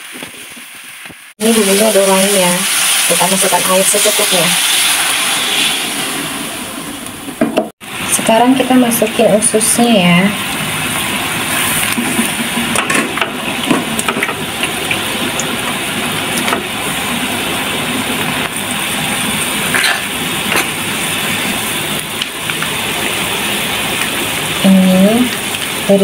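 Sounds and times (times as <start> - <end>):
broth sizzling and bubbling: 0.0 - 26.0.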